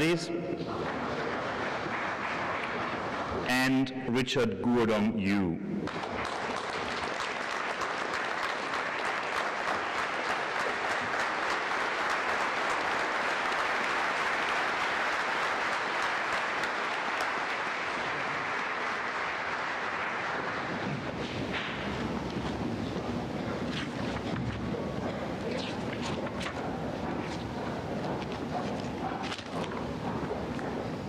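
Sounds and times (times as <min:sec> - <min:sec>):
audience applauding: 0:00.7 - 0:03.4, 0:05.8 - 0:31.0.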